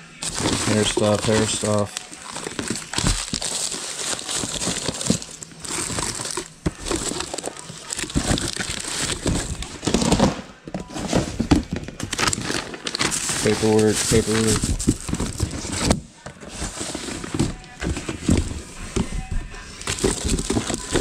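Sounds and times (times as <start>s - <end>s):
plastic packaging crinkling: 0.0s - 21.0s
items knocking against plastic: 0.2s - 21.0s.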